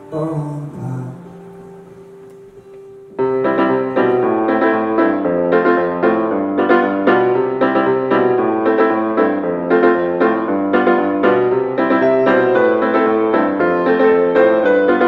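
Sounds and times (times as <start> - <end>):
piano background music: 0.0 - 15.0.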